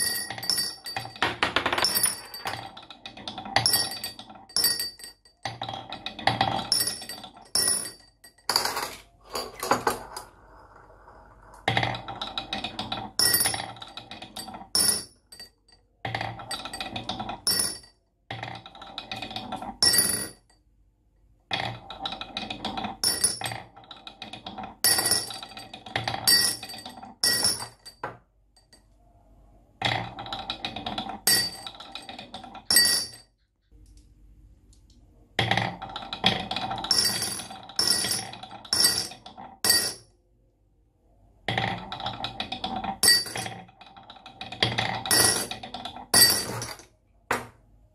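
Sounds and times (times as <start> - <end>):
marbles rolling and clinking: 0.0 - 20.5, 21.5 - 28.2, 29.8 - 33.3, 35.4 - 40.1, 41.5 - 46.9.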